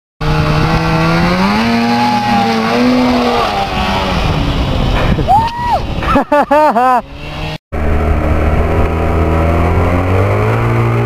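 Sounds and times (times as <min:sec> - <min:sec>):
snowmobile engine revving: 0:00.2 - 0:11.0.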